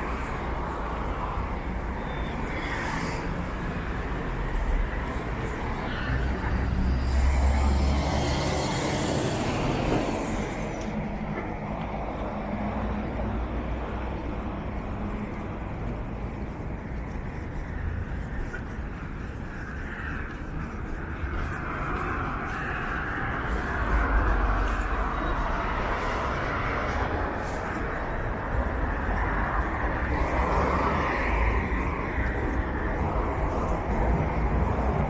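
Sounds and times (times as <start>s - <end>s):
street traffic: 0.0s - 35.0s.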